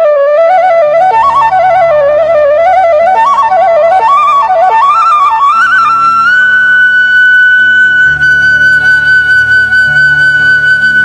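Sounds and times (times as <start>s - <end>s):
ornamented melody instrument: 0.0s - 11.0s.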